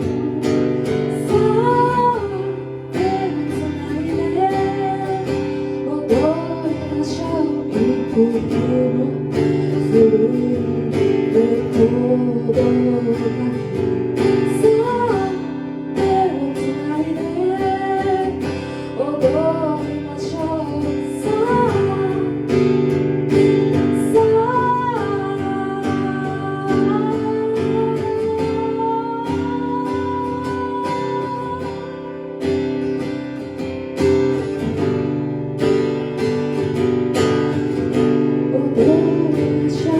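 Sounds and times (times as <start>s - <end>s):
acoustic guitar strumming with melody: 0.0s - 39.9s.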